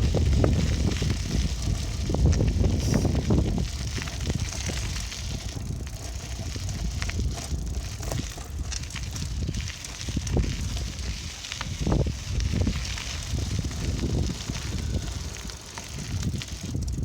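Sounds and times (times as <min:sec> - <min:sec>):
bicycle rumbling and rattling: 0:00.0 - 0:17.0.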